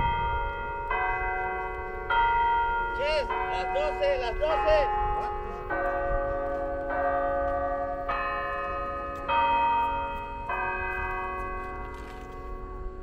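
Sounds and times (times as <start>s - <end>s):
clock chime bells ringing a tune: 0.0s - 13.0s.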